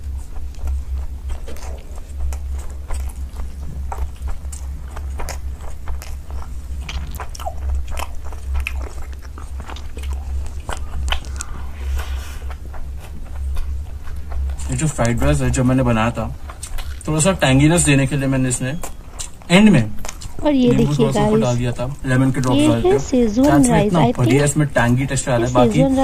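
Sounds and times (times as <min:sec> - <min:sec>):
person chewing crunchy food: 0:00.0 - 0:25.7
steady low hum: 0:00.0 - 0:26.0.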